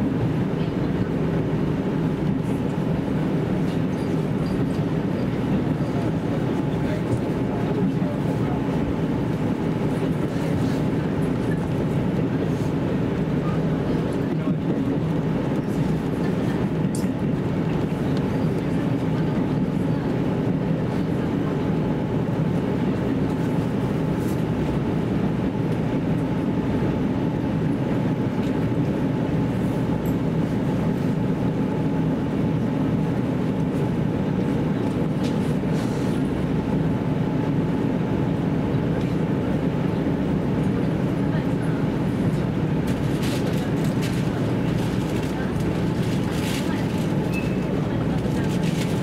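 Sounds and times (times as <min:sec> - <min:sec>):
diesel railcar rumble: 0:00.0 - 0:49.0.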